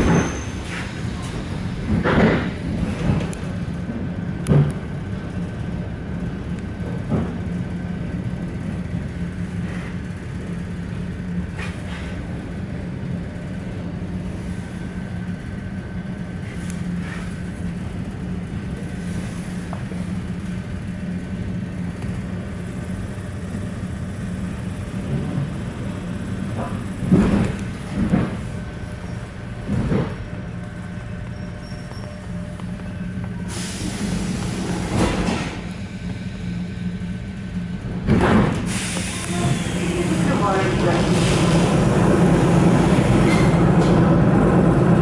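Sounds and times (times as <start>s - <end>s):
electric train interior rumble: 0.0s - 45.0s.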